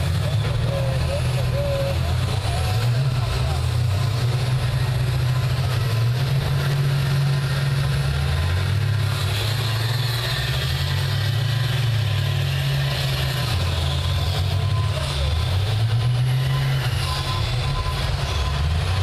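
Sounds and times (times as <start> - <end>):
bus engines rumbling under load: 0.0 - 19.0.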